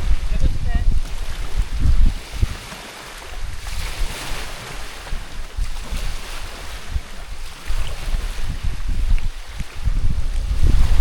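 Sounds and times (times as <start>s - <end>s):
waves washing against shore: 0.0s - 11.0s
wind buffeting microphone: 0.0s - 11.0s.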